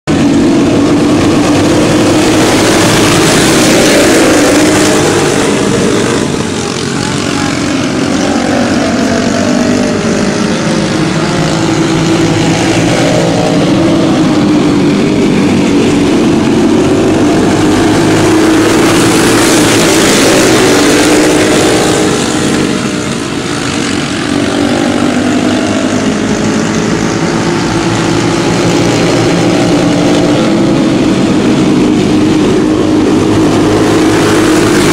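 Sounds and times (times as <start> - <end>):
racing kart engines at full throttle: 0.0 - 34.9.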